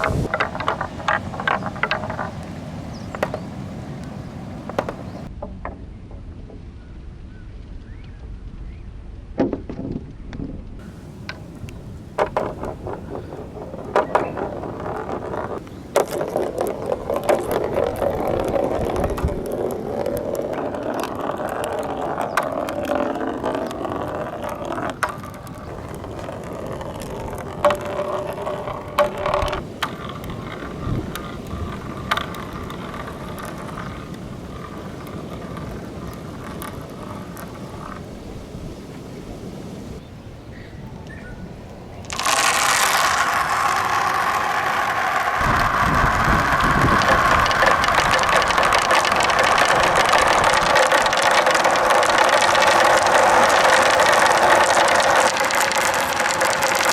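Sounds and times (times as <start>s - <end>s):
marbles clacking against rails: 0.0s - 5.4s, 10.8s - 38.1s, 42.0s - 56.9s
marbles rolling on wooden track: 0.0s - 5.8s, 10.8s - 38.2s, 42.0s - 56.9s.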